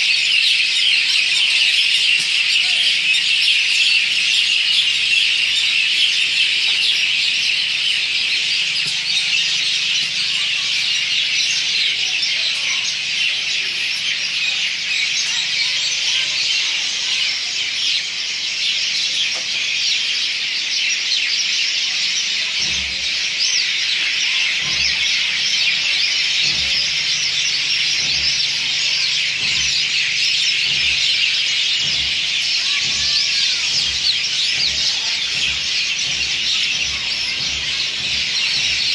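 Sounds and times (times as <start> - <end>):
many birds chirping and squawking: 0.0 - 38.9.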